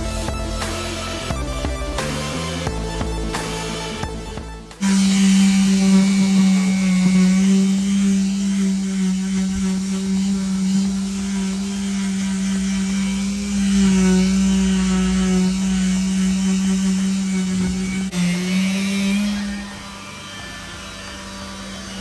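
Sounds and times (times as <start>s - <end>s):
orbital sander on wood: 0.0s - 22.0s.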